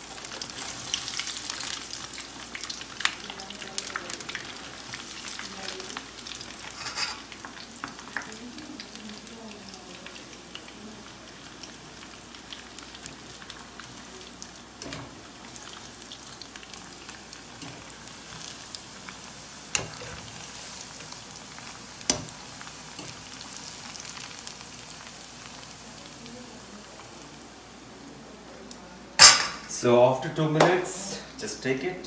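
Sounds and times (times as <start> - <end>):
food deep-frying in oil: 0.0 - 29.8.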